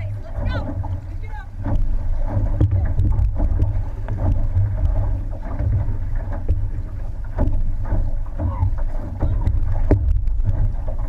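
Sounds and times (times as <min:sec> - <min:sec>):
paddle splashes and knocks: 0:00.0 - 0:11.0
water washing along hull: 0:00.0 - 0:11.0
wind buffeting microphone: 0:00.0 - 0:11.0.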